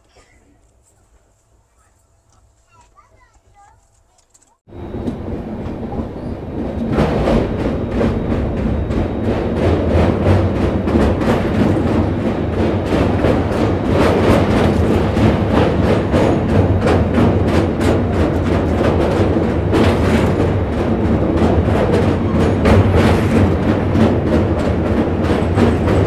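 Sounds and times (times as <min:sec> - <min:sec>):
steady train rumble: 0:00.0 - 0:26.0
train wheels clattering on bridge: 0:04.6 - 0:26.0.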